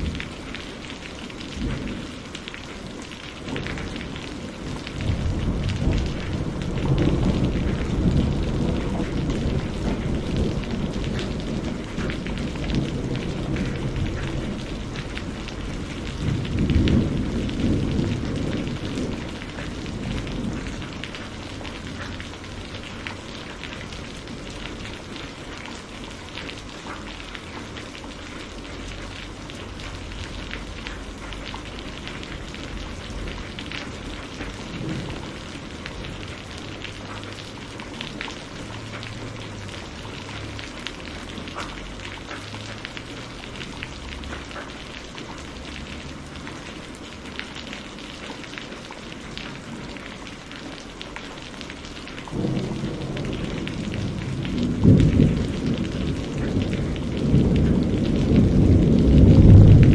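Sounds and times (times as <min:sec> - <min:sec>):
distant thunder rumbling: 0:00.0 - 0:02.7, 0:03.3 - 0:25.9, 0:26.6 - 0:42.9, 0:52.0 - 0:59.9
steady rain: 0:00.0 - 0:59.9.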